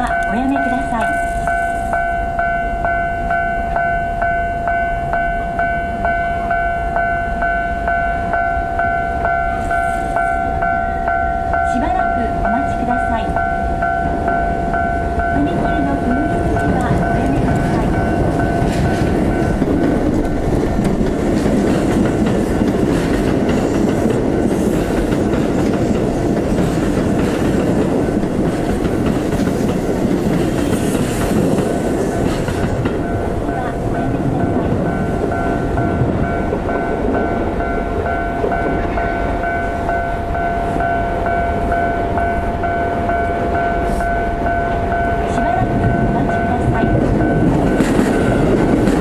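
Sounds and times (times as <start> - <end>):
level crossing warning bell: 0.0 - 49.0
train rumble and wheel clatter: 0.0 - 49.0.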